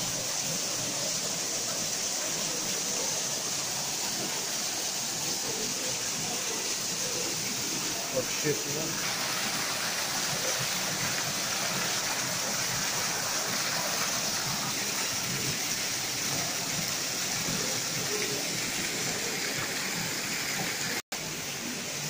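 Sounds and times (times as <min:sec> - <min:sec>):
water rushing from waterfall: 0:00.0 - 0:22.0.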